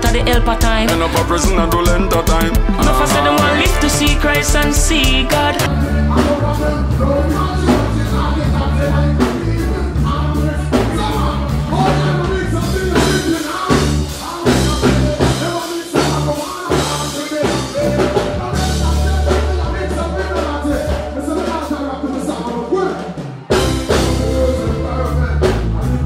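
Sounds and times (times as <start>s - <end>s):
dancehall music with heavy bass: 0.0s - 8.8s, 11.0s - 26.0s
person singing: 0.0s - 26.0s.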